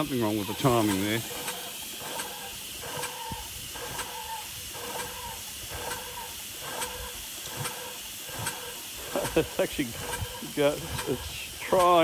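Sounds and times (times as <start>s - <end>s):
faint regular engine pulse: 0.0s - 12.0s
steam hissing: 0.0s - 12.0s.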